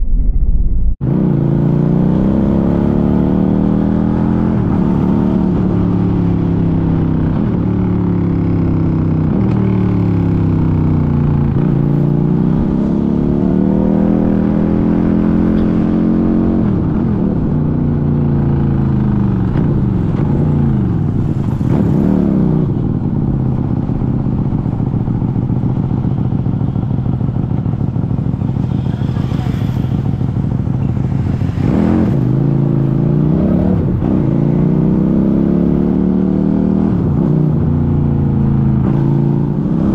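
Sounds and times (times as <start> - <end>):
motorcycle engine revving: 1.0 - 39.9.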